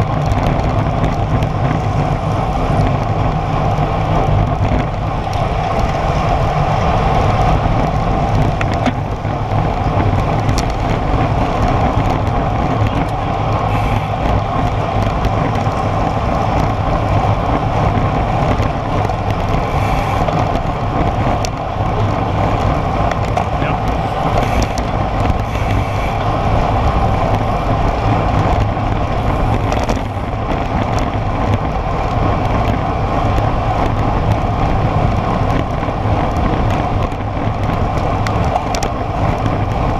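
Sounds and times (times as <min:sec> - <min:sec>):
bike tyres humming on asphalt: 0:00.0 - 0:39.9
wind rushing over microphone: 0:00.0 - 0:39.9.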